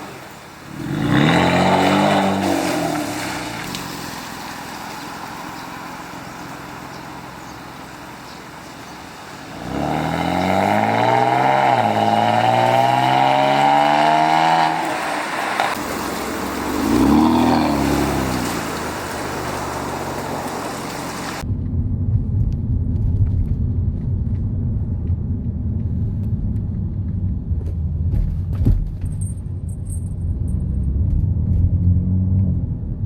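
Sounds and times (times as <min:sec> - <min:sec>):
car exhaust idling and revving: 0:00.0 - 0:33.0.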